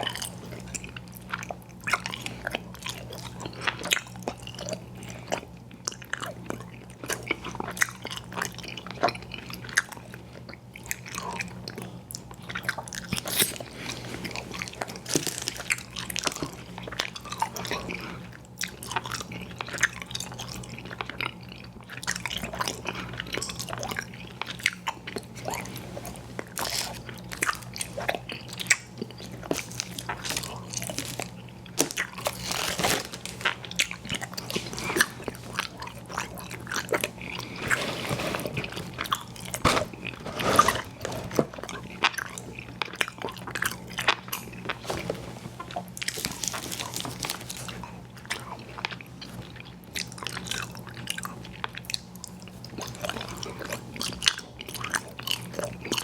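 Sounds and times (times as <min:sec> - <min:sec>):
mouth chewing candy: 0:00.0 - 0:56.0.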